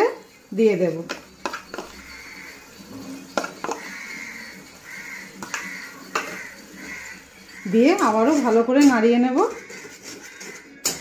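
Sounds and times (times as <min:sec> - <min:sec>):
hot oil sizzling: 0:00.0 - 0:11.0
spoon clinking against metal: 0:01.0 - 0:04.6, 0:05.3 - 0:11.0.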